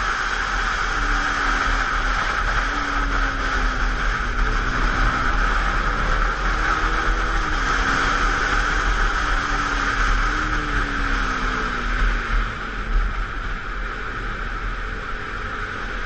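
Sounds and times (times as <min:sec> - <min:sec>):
motorcycle engine revving: 0:00.0 - 0:16.0
wind rush on camera: 0:00.0 - 0:16.0.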